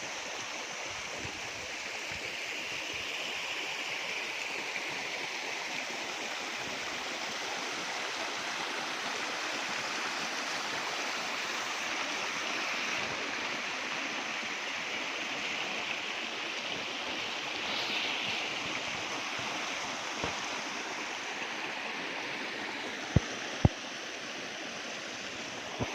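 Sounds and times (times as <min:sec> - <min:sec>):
flowing water rushing: 0:00.0 - 0:25.9.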